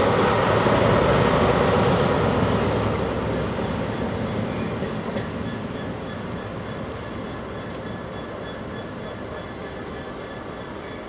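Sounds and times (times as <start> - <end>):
diesel train engine running: 0.0 - 11.0
train wheels rumbling on track: 0.0 - 11.0.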